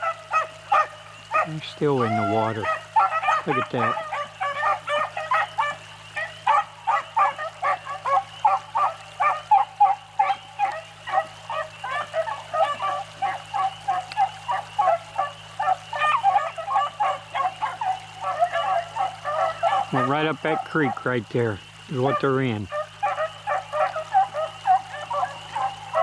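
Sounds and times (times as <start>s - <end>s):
hounds baying and yelping: 0.0s - 26.0s.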